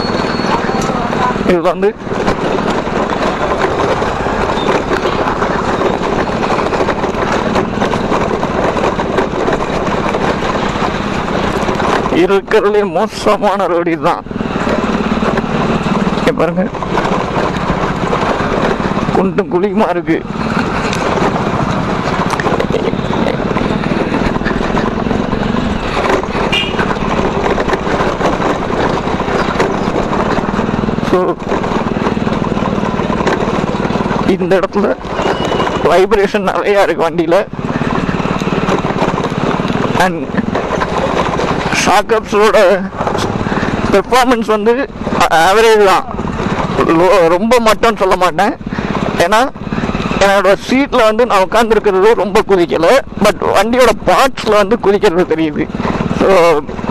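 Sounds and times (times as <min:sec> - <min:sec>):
bike parts knocking and rattling: 0:00.0 - 0:56.9
road and wind rushing: 0:00.0 - 0:56.9.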